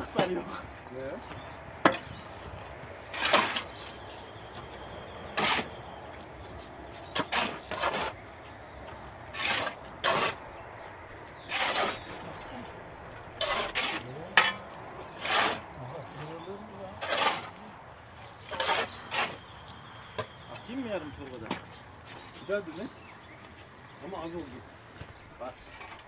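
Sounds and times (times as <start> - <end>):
shovels scraping gravel: 1.3 - 21.8, 25.4 - 26.0.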